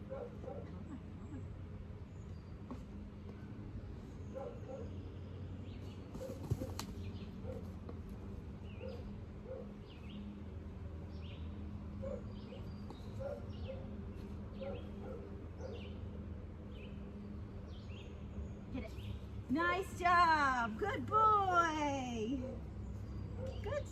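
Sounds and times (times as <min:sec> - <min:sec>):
birds chirping: 0:00.0 - 0:07.7, 0:08.4 - 0:23.9.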